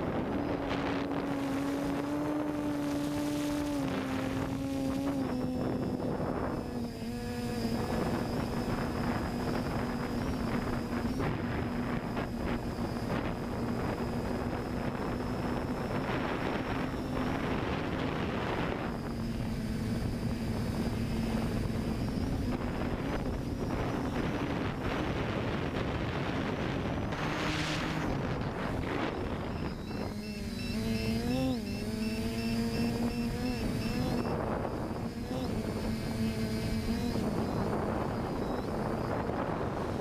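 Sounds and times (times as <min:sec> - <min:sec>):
drone motors humming: 0:00.0 - 0:40.0
wind on microphone: 0:00.0 - 0:40.0.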